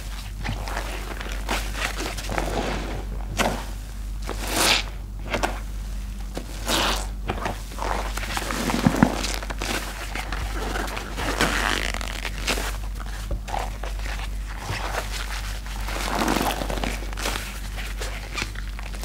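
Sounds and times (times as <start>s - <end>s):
sponge squelching in soapy foam: 0.0s - 19.0s.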